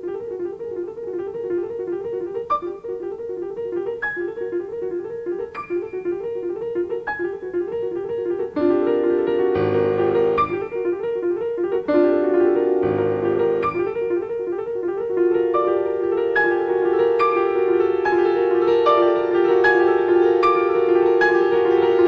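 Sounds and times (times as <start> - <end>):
solo classical piano: 0.0 - 22.0.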